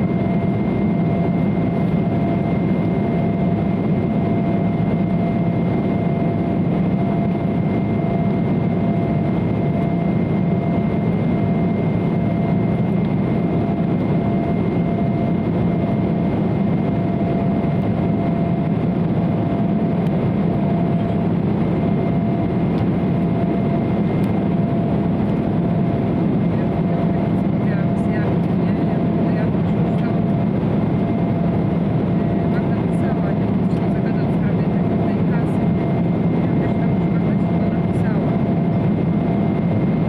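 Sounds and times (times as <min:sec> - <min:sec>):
airliner cabin drone: 0:00.0 - 0:40.0
constant engine whine: 0:00.0 - 0:40.0.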